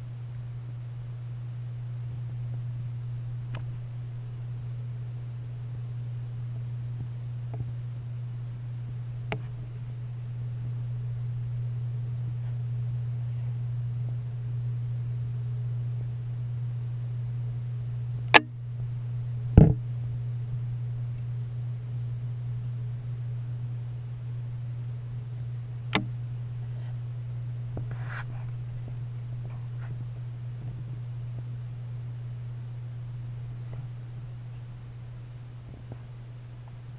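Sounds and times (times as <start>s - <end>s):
underwater pump hum: 0.0s - 36.9s.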